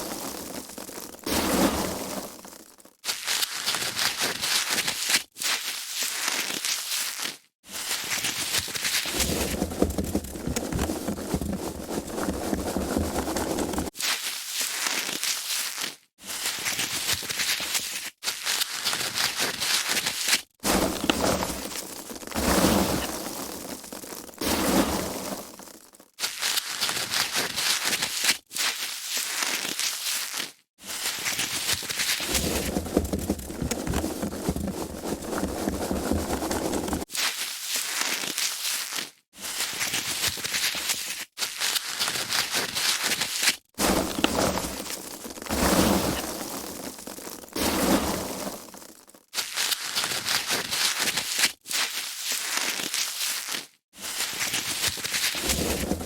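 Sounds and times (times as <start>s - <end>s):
foam packaging being handled: 0.0s - 56.0s.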